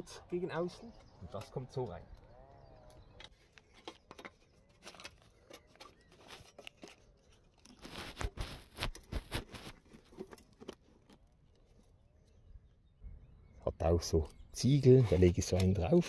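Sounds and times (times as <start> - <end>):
sticks and stones cracking and scraping: 0.8 - 12.4, 14.0 - 16.0.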